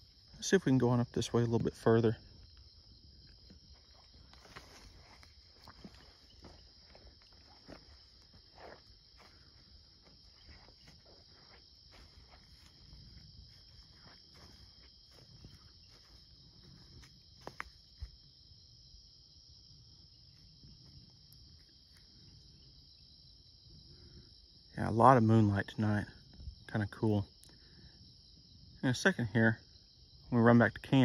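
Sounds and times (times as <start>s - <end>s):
night insects chorus: 0.0s - 31.0s.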